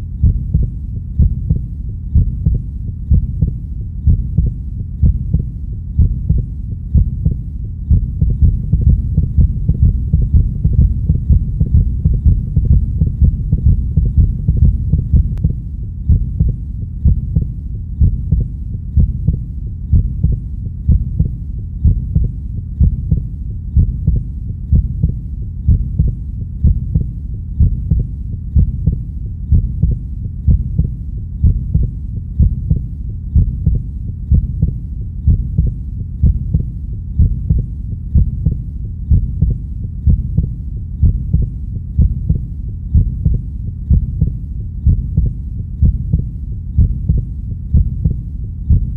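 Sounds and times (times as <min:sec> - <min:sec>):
continuous low rumble: 0:00.0 - 0:48.9
heartbeat thumps: 0:00.0 - 0:48.9.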